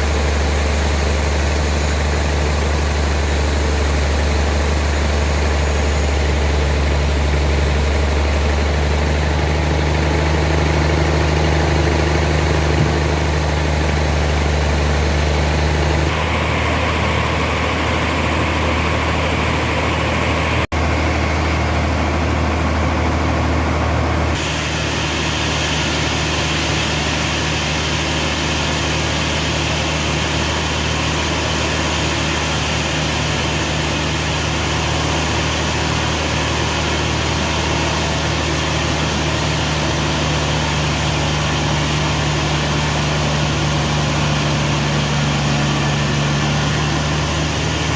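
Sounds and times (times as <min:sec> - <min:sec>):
sawmill machinery humming: 0:00.0 - 0:47.9.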